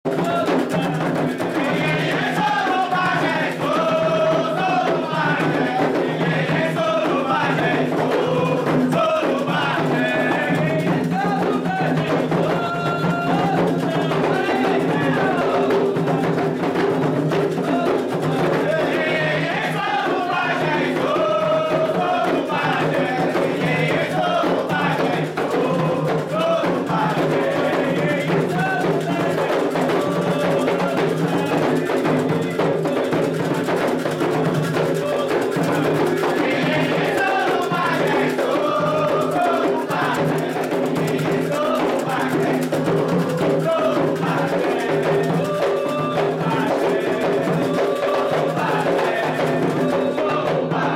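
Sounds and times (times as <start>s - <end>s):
hand drums playing a driving rhythm: 0.0s - 50.9s
voices singing: 0.1s - 50.9s.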